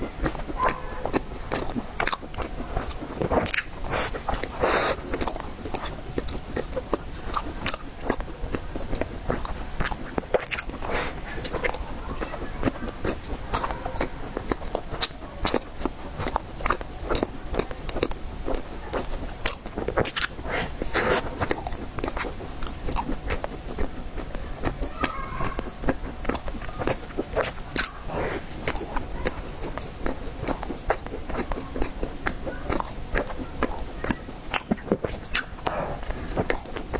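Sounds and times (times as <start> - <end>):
person chewing cake: 0.0 - 36.9.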